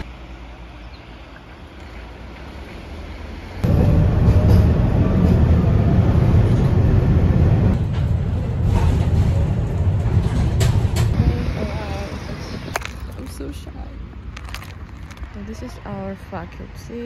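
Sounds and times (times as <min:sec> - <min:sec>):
tram wheels rumbling: 0:01.2 - 0:17.0.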